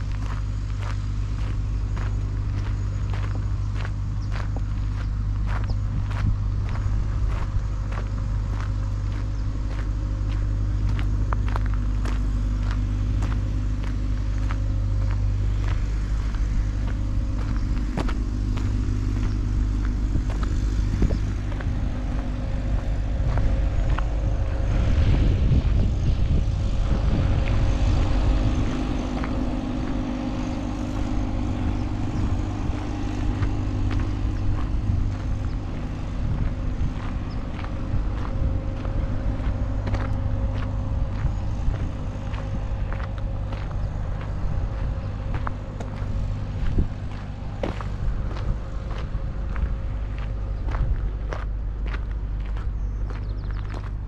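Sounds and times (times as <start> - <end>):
footsteps on gravel: 0.0 - 54.0
low rumble: 0.0 - 54.0.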